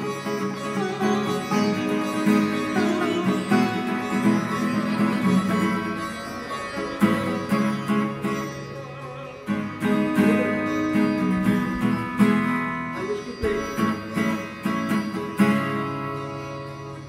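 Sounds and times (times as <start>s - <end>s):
acoustic guitar strumming: 0.0s - 17.0s
sitar playing: 0.0s - 17.0s.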